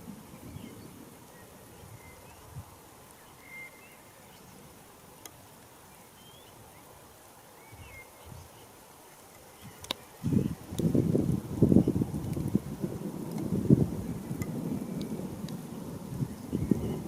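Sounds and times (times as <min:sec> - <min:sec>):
birds chirping: 0:00.0 - 0:17.0
steady background hiss: 0:00.0 - 0:17.0.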